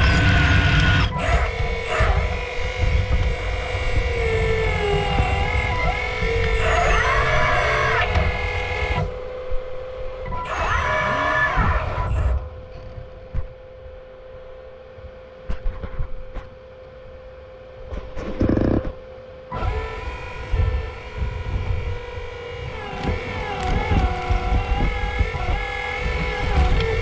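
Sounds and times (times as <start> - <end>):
hydraulic pump whine: 0.0 - 27.0.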